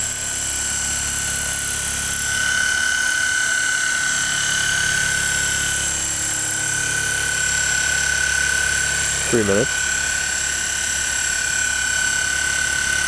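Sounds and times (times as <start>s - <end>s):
rc helicopter high whine: 0.0s - 13.0s.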